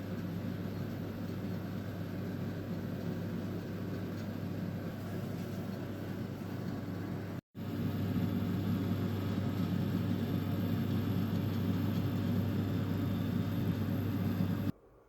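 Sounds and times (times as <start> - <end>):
low mechanical rumble with hum: 0.0 - 14.8.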